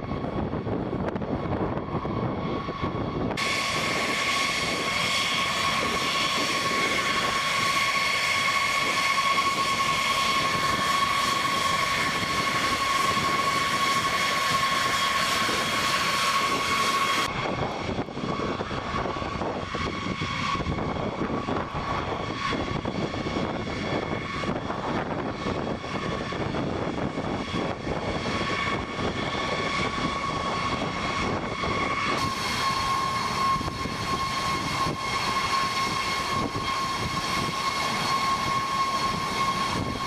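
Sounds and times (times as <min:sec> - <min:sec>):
jet engines high whine: 0:00.0 - 0:40.0.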